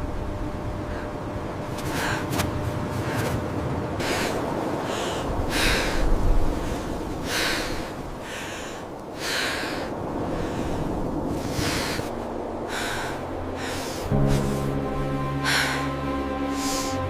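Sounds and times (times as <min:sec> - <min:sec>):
wind rushing: 0:01.5 - 0:17.0.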